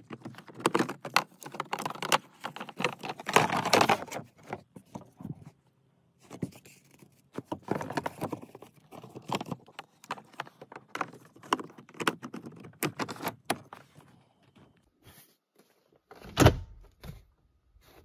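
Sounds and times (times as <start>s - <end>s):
air filter rustling and scraping: 0.0s - 16.0s.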